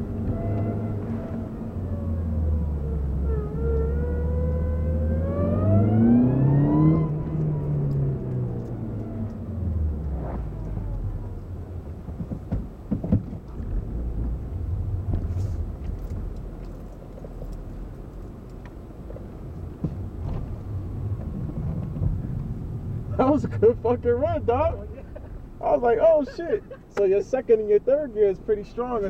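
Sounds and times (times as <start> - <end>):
car engine revs falling: 0.0 - 16.6, 19.8 - 27.0.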